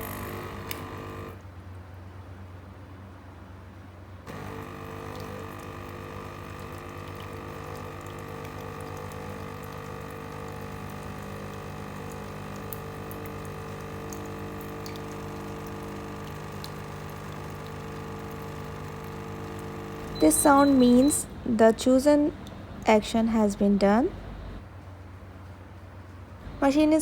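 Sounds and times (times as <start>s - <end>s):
espresso machine pump buzzing: 0.0s - 1.4s, 4.3s - 24.6s.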